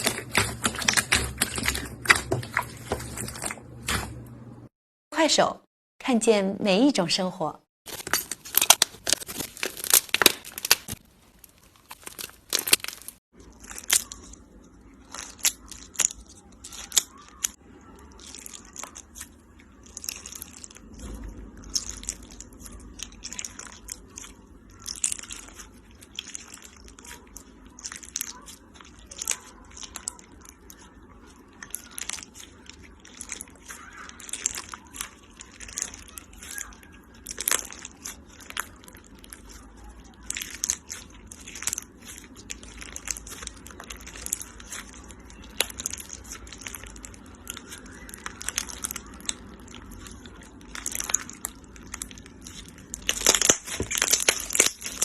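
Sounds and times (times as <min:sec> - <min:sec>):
slime crunching crackles: 0:00.0 - 0:04.4, 0:07.9 - 0:55.0.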